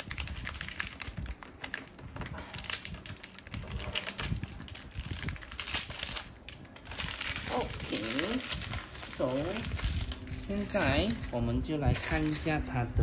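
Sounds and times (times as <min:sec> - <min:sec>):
packaging rustling: 0:00.0 - 0:12.7.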